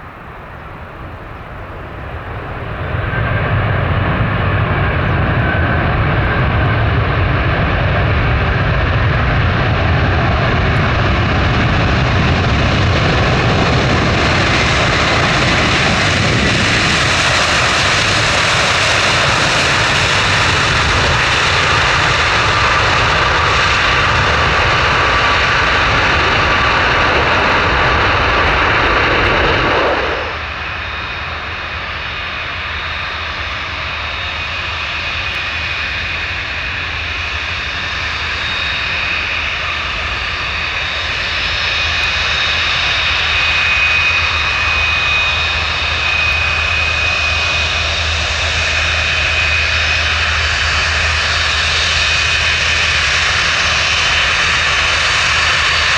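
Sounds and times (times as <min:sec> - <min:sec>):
jet engines running loud: 0:00.0 - 0:55.9.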